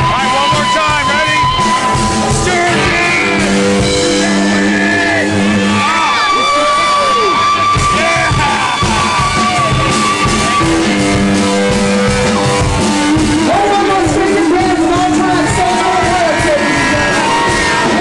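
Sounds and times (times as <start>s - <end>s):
crowd shouting and singing along: 0.0s - 18.0s
drums: 0.0s - 18.0s
loud rock music with singing: 0.0s - 18.0s.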